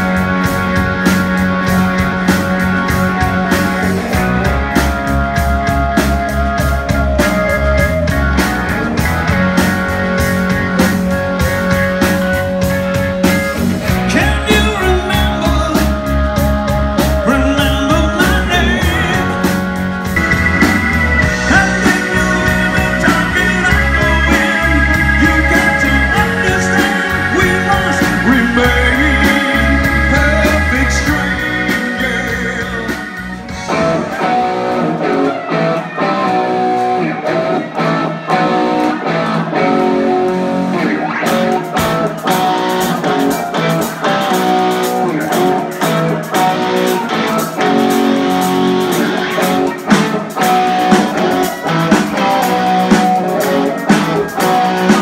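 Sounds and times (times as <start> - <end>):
distorted electric guitar: 0.0 - 55.0
live rock band playing: 0.0 - 55.0.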